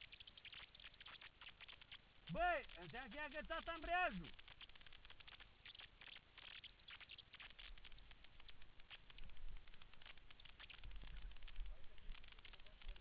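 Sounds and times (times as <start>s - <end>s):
rustling and crackling: 0.0s - 13.0s.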